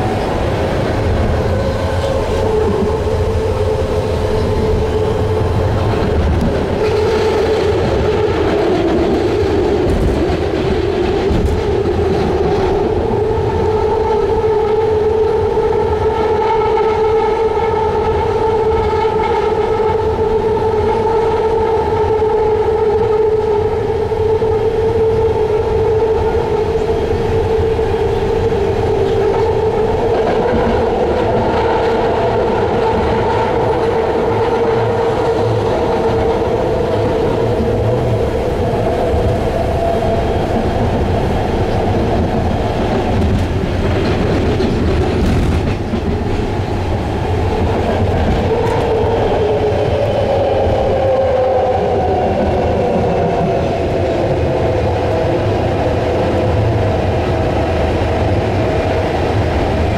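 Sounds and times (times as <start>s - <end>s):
train running at speed: 0.0s - 59.9s.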